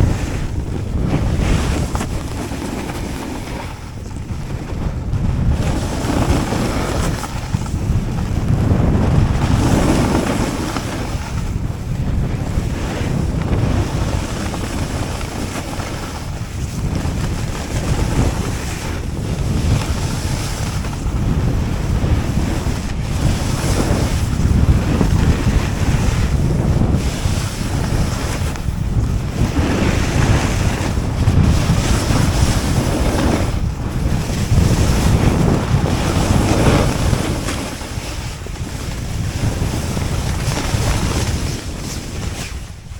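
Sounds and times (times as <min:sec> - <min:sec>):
snowboard scraping over snow: 0:00.0 - 0:42.9
wind rush on microphone: 0:00.0 - 0:42.9.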